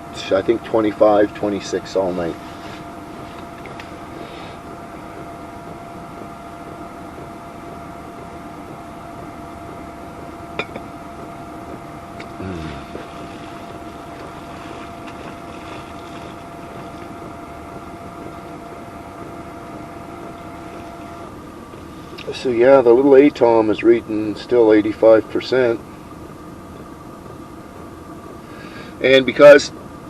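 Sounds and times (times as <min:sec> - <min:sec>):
heater whirring hum: 0:00.0 - 0:30.0.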